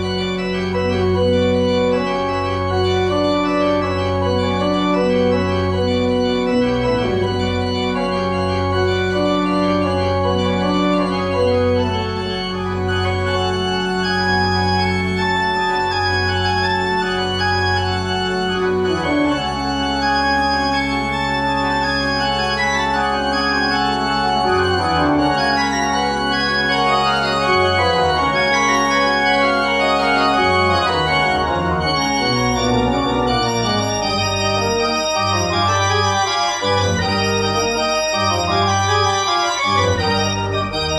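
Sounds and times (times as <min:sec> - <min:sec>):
church organ chords: 0:00.0 - 0:40.9.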